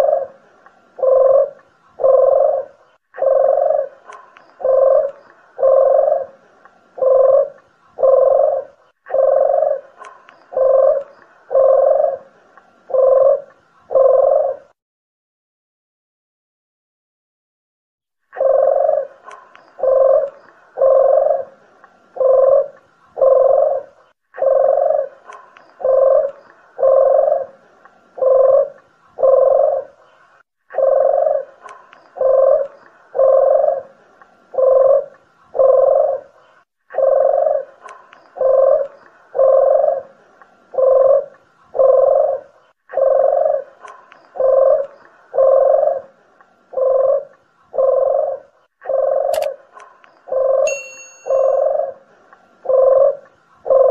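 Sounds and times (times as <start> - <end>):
doves cooing: 0.0 - 14.8, 18.3 - 53.9.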